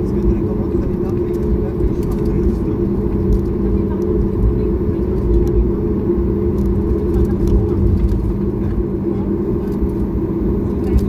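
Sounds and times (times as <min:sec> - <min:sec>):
low rumble of ground roll: 0:00.0 - 0:11.0.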